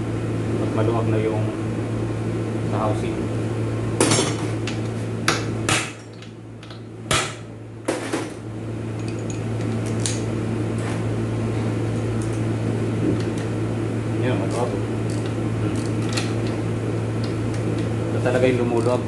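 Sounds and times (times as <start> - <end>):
low fan hum: 0.0 - 19.0.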